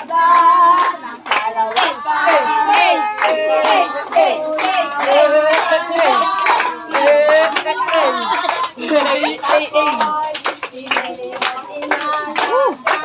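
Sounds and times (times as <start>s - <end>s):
children singing: 0.0s - 13.0s
hand claps: 0.0s - 13.0s.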